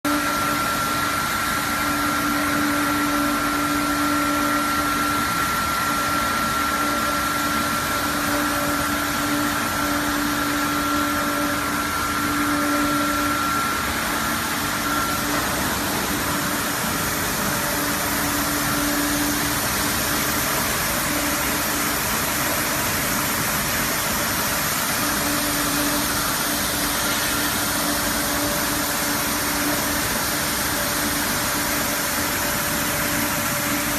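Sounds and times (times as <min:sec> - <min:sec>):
high steady whine: 0:00.0 - 0:33.9
machine hum: 0:00.0 - 0:33.9.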